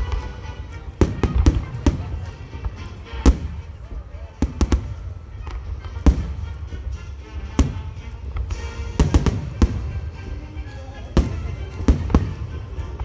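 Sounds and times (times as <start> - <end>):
fireworks bursting: 0.0 - 13.0
music over outdoor loudspeakers: 0.0 - 13.0.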